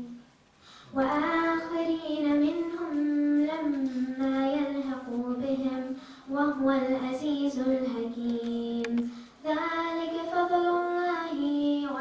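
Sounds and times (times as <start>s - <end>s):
girl chanting into a microphone: 0.9s - 12.0s.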